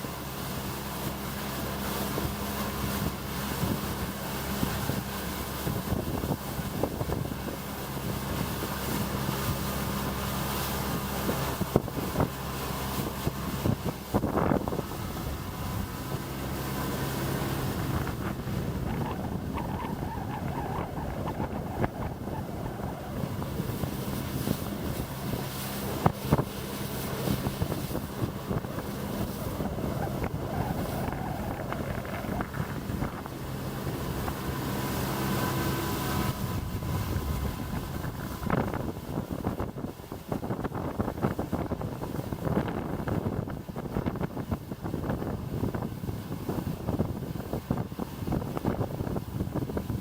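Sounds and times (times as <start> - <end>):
boat motor running: 0.0 - 50.0
wind buffeting microphone: 0.5 - 50.0.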